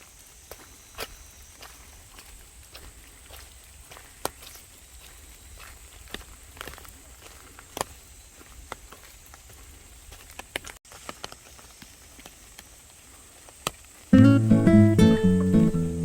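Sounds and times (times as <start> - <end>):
footsteps on forest trail: 0.0 - 14.2
faint outdoor hiss: 0.0 - 16.0.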